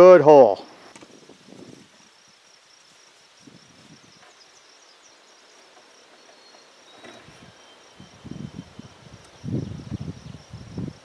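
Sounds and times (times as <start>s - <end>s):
insects chirping in a trill: 0.0s - 11.0s.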